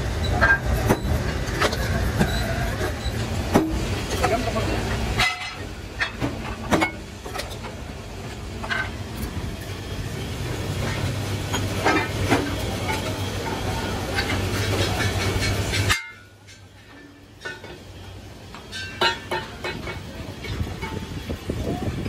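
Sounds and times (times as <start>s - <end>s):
metalworking machinery humming: 0.0s - 22.0s
sharp metallic clanks: 0.2s - 7.8s, 10.8s - 21.4s.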